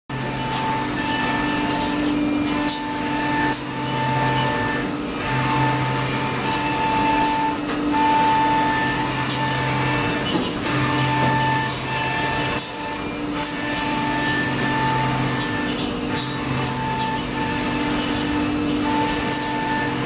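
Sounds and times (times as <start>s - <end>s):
milling machine motor whine: 0.1s - 20.0s.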